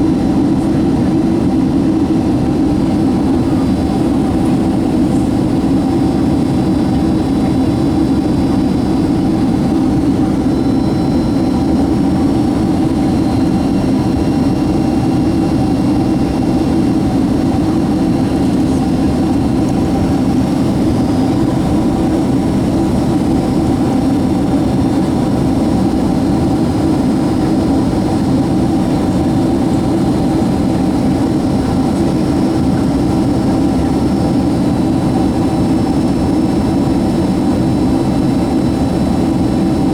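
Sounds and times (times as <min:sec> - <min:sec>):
faint steady whines: 0:00.0 - 0:39.9
jet engine cabin rumble: 0:00.0 - 0:39.9.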